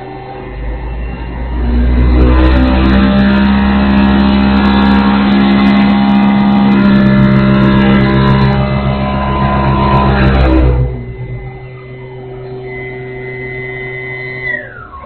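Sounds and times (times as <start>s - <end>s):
mixer motor humming: 0.0s - 15.0s.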